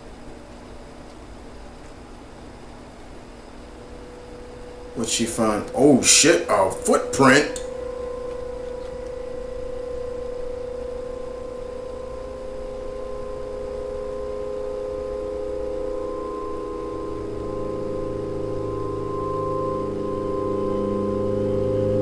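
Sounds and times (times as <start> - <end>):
eerie horror drone: 3.8 - 22.0.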